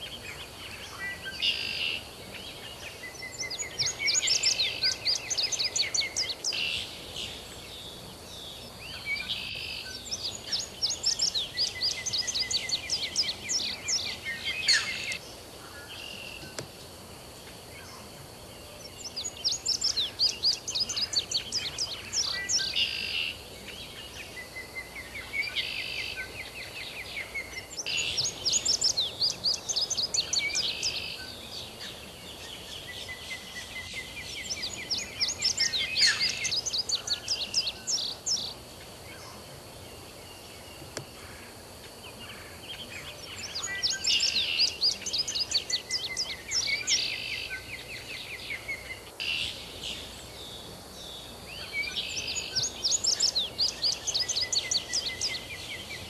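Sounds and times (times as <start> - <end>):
bird singing trills: 0.0 - 16.6, 17.8 - 56.0
background hiss: 0.0 - 56.0.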